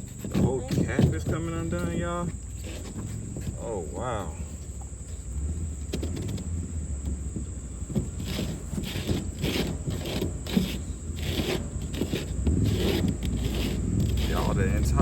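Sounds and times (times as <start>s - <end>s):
plastic cap scraping: 0.0s - 3.6s, 5.9s - 6.5s, 7.1s - 15.0s.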